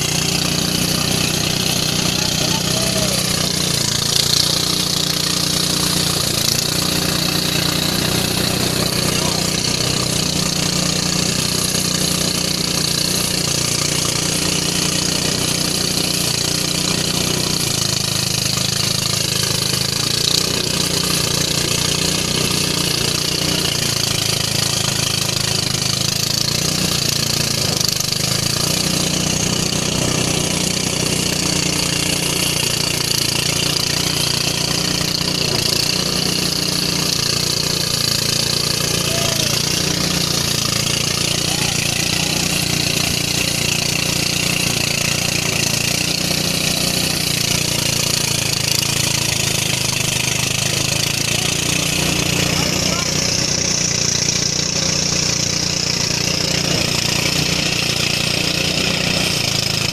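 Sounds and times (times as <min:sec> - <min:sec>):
threshing machine engine hum: 0:00.0 - 0:59.9.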